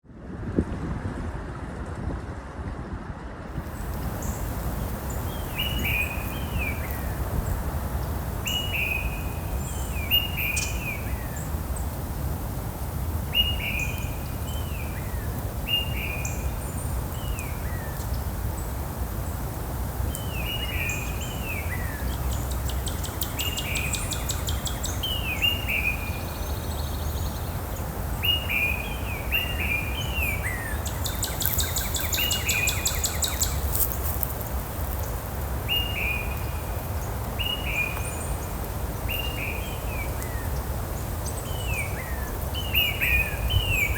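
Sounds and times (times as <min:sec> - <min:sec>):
birds chirping: 0:03.6 - 0:43.9.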